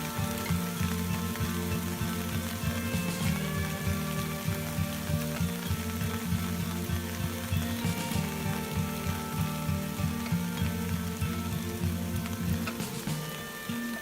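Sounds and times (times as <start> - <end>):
background music: 0.0 - 14.0
heavy rain hissing: 0.0 - 14.0.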